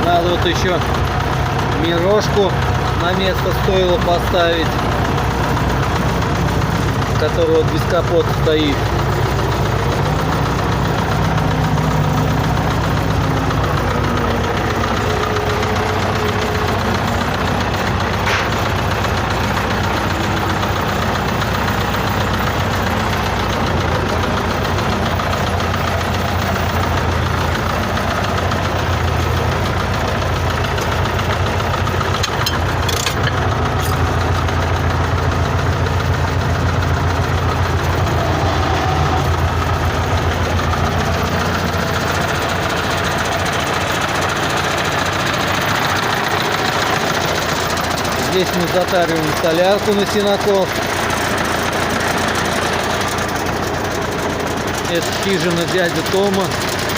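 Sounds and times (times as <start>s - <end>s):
diesel engine idling with knock: 0.0s - 56.9s.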